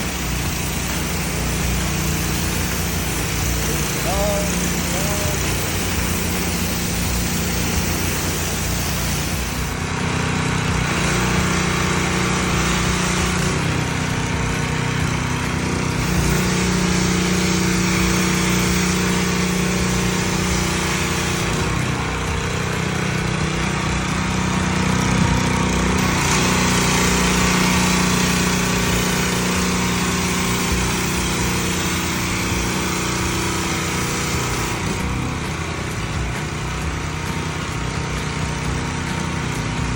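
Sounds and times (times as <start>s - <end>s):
pressure washer engine running: 0.0s - 39.9s
water spray hissing on concrete: 0.0s - 39.9s.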